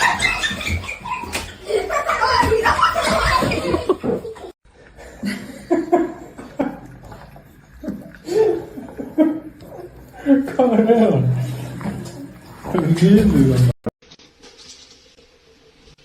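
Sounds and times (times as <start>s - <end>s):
people laughing: 0.0s - 13.7s.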